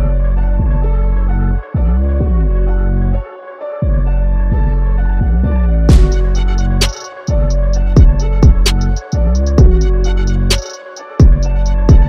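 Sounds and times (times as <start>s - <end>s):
slow ambient electronic music: 0.0s - 12.0s.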